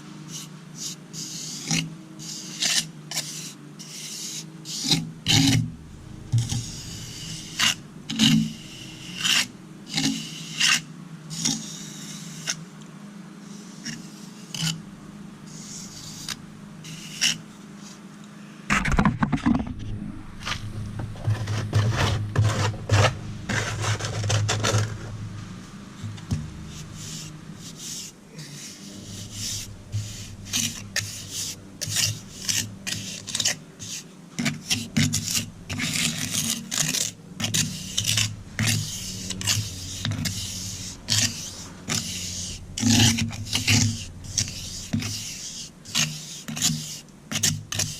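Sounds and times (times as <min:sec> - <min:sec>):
hand tool scraping concrete: 0:00.3 - 0:05.7, 0:06.4 - 0:12.6, 0:13.6 - 0:14.9, 0:15.5 - 0:17.5, 0:20.4 - 0:25.2, 0:26.1 - 0:47.9.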